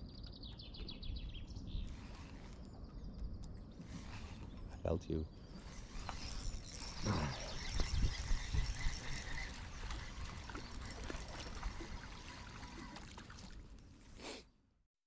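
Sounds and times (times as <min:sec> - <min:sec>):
water splashing and trickling: 0:01.7 - 0:14.3.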